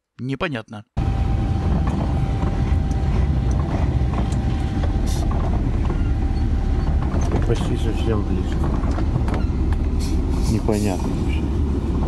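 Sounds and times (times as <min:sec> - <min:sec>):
engine and road rumble: 0:01.0 - 0:12.0.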